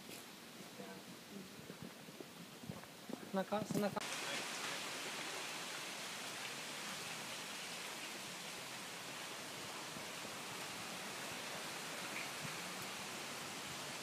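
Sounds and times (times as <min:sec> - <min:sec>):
wind rustling bamboo leaves: 0:00.0 - 0:14.0.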